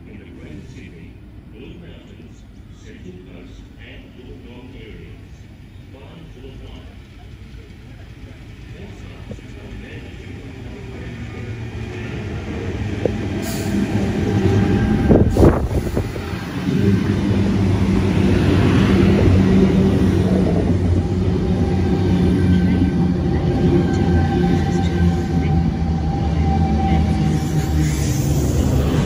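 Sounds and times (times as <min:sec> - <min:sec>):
train humming: 0:00.0 - 0:29.0
train wheels rumbling on rail: 0:05.1 - 0:29.0.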